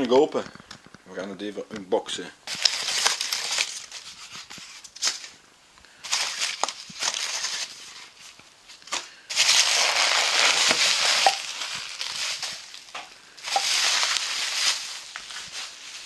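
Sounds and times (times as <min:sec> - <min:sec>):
bubble wrap crinkling: 0:02.4 - 0:16.0
packing crackles: 0:02.5 - 0:16.0.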